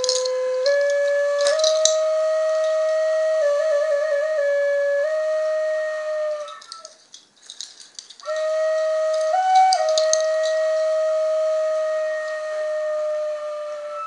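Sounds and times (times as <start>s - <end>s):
wooden flute playing low note: 0.0s - 6.9s, 8.2s - 14.0s.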